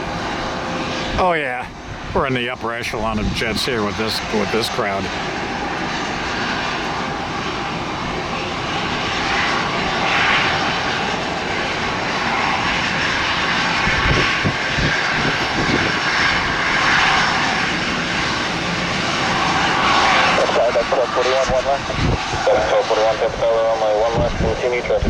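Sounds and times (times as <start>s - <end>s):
jet engines roaring at takeoff: 0.0s - 25.0s.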